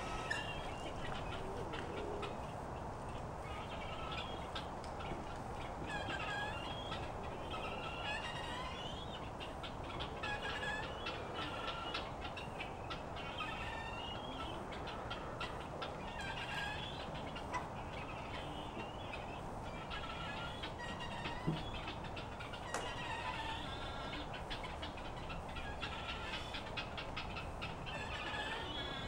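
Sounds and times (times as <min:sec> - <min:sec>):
guinea fowl calling: 0:00.0 - 0:29.0.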